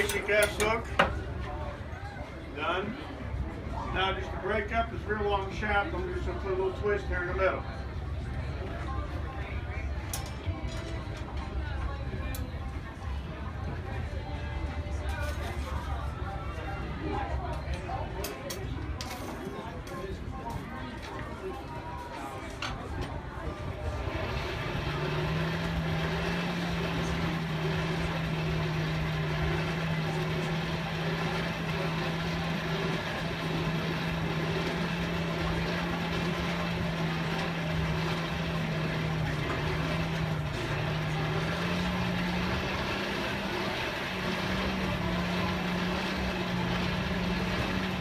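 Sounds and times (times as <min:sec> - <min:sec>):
steady background noise: 0:00.0 - 0:48.0.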